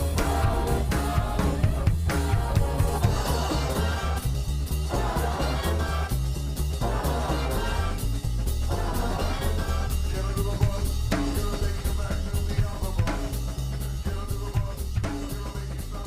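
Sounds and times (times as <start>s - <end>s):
bass line: 0.0s - 16.0s
drum kit beat: 0.0s - 16.0s.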